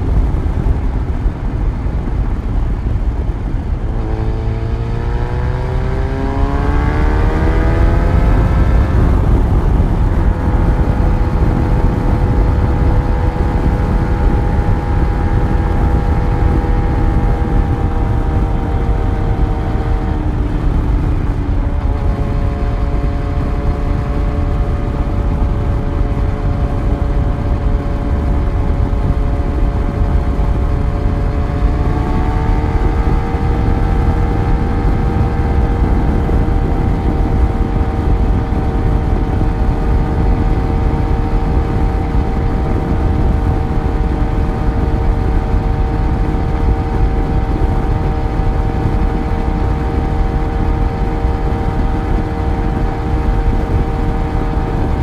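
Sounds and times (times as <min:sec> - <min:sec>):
low wind rumble: 0:00.0 - 0:55.0
motorcycle engine accelerating: 0:00.0 - 0:55.0.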